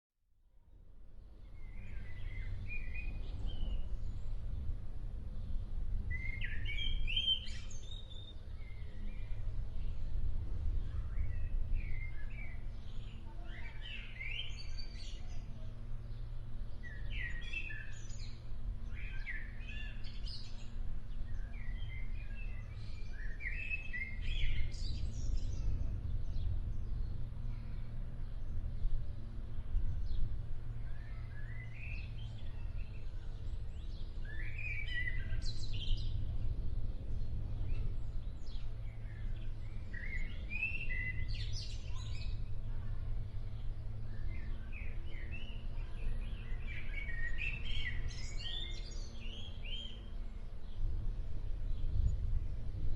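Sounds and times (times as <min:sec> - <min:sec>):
steady low rumble: 0:00.8 - 0:13.4, 0:14.0 - 0:52.9
songbird singing: 0:01.0 - 0:52.9.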